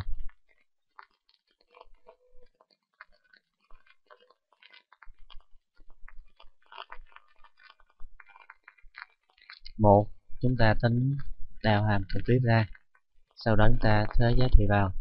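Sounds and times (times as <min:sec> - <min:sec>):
crackling and clicking: 0:00.0 - 0:15.0.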